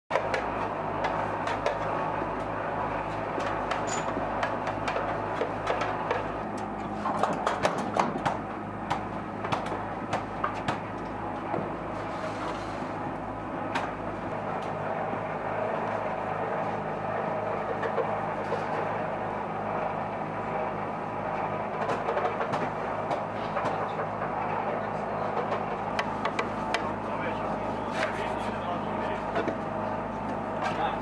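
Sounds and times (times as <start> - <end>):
steady mechanical hum: 0.1 - 31.0.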